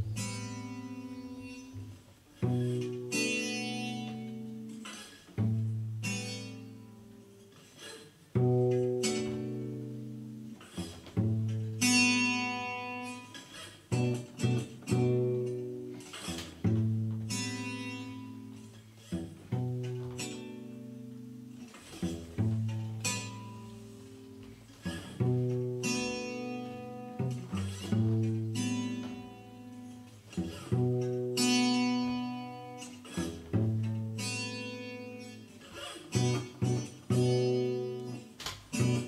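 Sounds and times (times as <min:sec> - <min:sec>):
plucked string notes and chords: 0:00.0 - 0:39.0.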